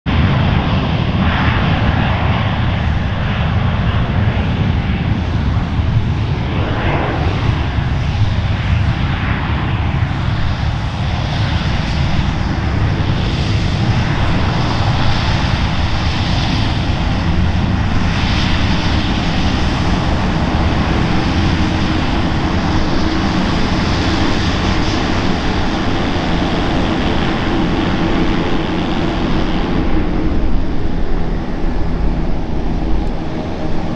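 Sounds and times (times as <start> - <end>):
jet engines at takeoff power: 0.0 - 33.9.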